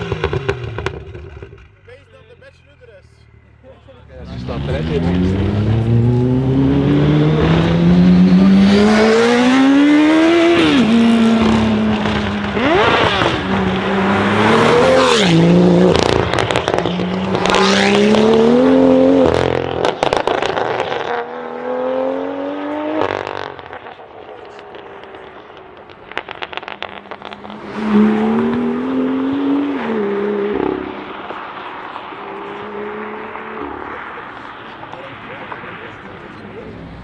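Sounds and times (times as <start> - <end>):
exhaust crackles: 3.9 - 21.3, 23.0 - 37.0
car engine accelerating hard: 3.9 - 37.0.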